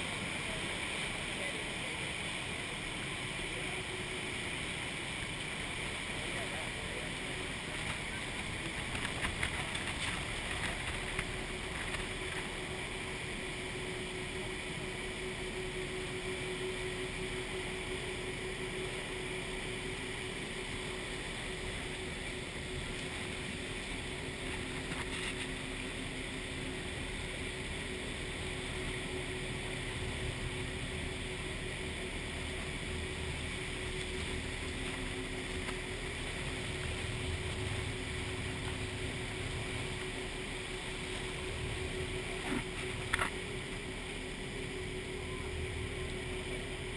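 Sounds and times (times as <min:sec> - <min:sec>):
boat engine humming: 0:00.0 - 0:46.9
waterfall roar: 0:00.0 - 0:46.9
wind: 0:00.0 - 0:46.9.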